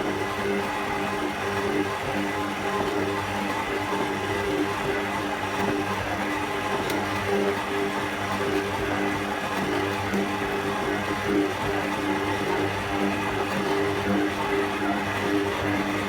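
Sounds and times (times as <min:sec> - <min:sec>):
stand mixer motor whirring: 0:00.0 - 0:16.0.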